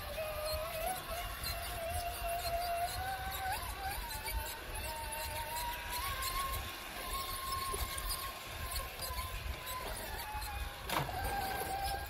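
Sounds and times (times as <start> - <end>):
electric drivetrain whining: 0.0 - 12.0.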